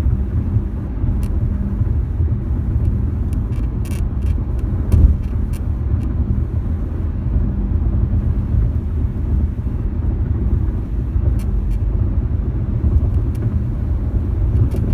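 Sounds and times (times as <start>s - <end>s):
road rumble in car cabin: 0.0s - 14.9s.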